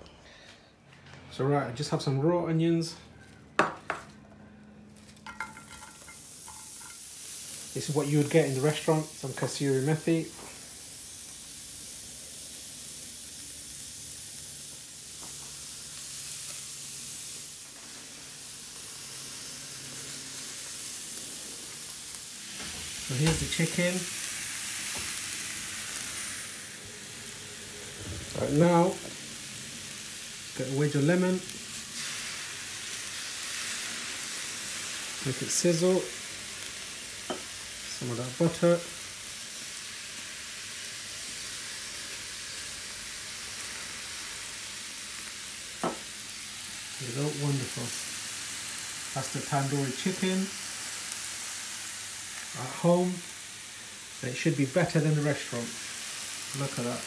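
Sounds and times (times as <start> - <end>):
chicken and onions sizzling: 5.1 - 57.0.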